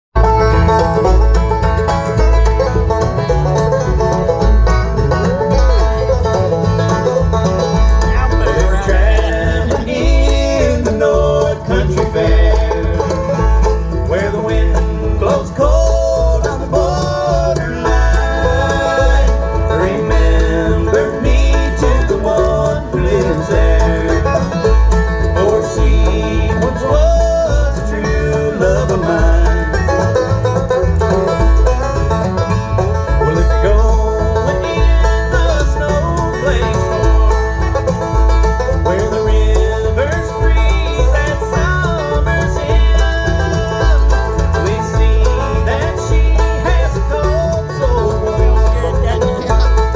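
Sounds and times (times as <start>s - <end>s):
bluegrass music with banjo and guitar: 0.0s - 49.9s.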